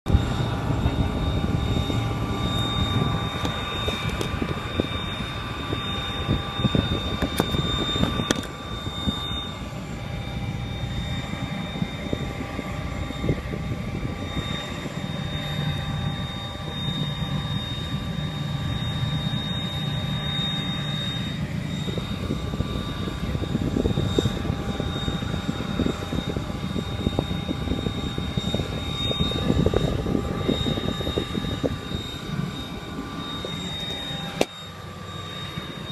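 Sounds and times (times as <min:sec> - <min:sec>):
propeller plane engine running: 0:00.0 - 0:35.9
thin steady whine: 0:00.1 - 0:35.9.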